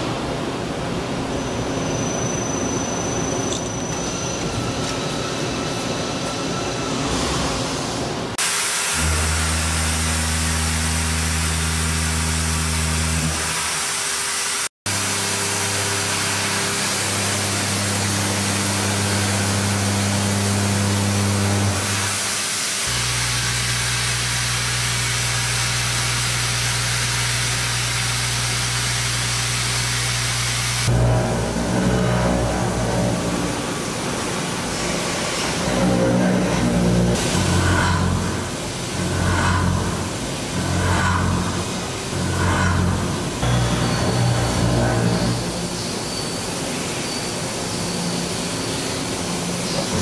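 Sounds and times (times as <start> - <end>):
machine hum: 2.2 - 50.0.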